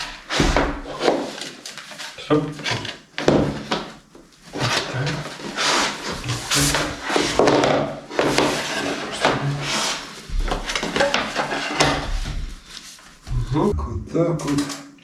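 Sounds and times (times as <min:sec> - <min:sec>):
wooden floor planks knocking: 0:00.0 - 0:01.6, 0:02.5 - 0:13.7.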